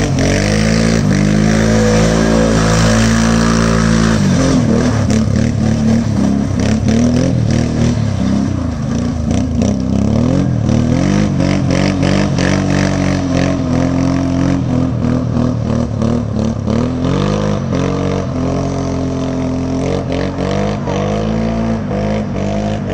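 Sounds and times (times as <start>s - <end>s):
quad engine revving: 0.0s - 22.9s.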